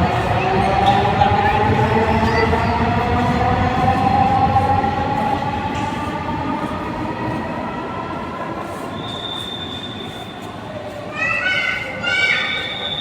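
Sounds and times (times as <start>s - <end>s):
train rolling rumble: 0.0s - 11.1s.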